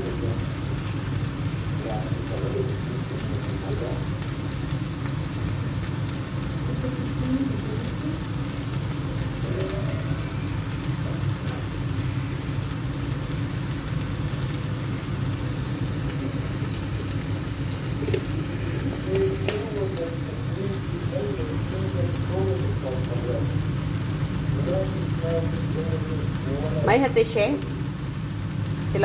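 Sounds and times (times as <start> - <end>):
chicken frying in oil: 0.0 - 29.0.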